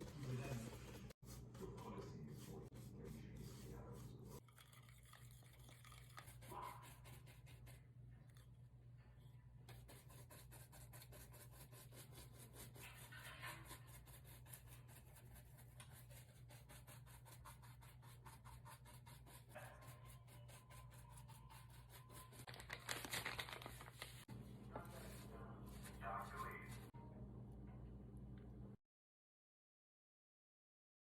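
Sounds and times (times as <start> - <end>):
faint scratching and rubbing: 0.0 - 8.4, 9.7 - 26.9.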